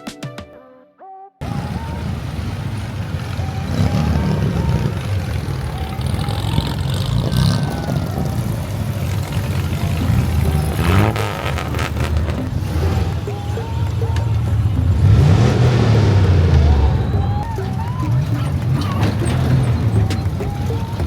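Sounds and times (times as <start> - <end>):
car engine revving: 1.4 - 21.0
car engines rumbling: 1.4 - 21.0.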